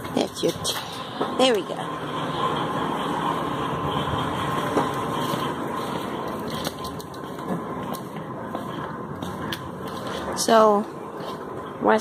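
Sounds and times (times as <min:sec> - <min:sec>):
shopping cart wheels rolling: 0:00.0 - 0:12.0.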